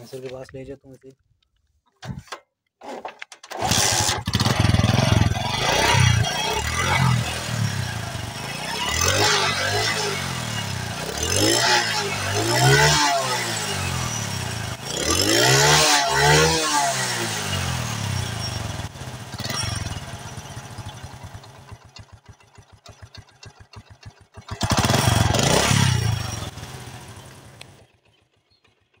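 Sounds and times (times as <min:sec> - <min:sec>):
motorcycle engine revving and idling: 0:03.5 - 0:29.0.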